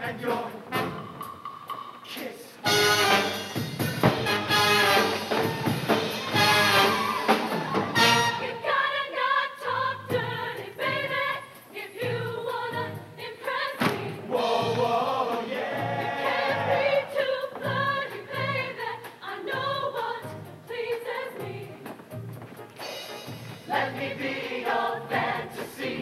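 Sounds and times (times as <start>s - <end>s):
choir singing in harmony: 0.0s - 1.3s, 4.6s - 22.0s, 23.6s - 26.0s
band accompaniment with percussion: 0.0s - 8.7s, 10.0s - 26.0s.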